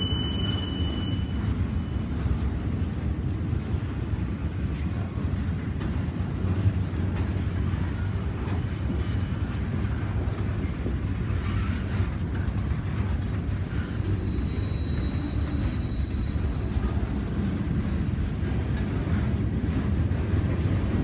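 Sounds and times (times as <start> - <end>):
train rolling past: 0.0 - 21.0.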